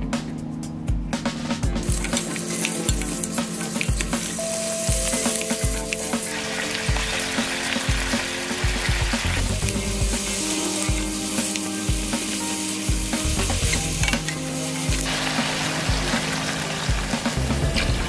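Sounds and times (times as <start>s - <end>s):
chicken frying in oil: 1.8s - 18.0s.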